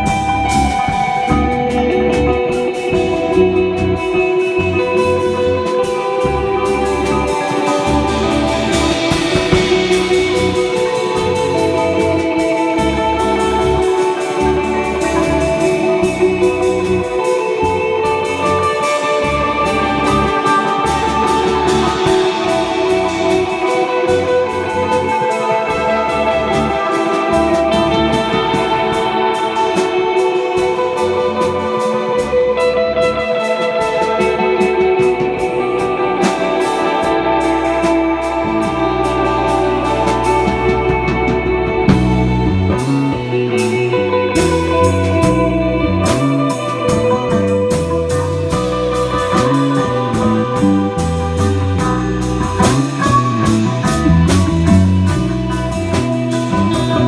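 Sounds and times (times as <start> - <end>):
cigar box guitar: 0.0 - 57.0
drum kit beat: 0.0 - 57.0
electric bass: 0.0 - 57.0
electric guitar: 0.0 - 57.0.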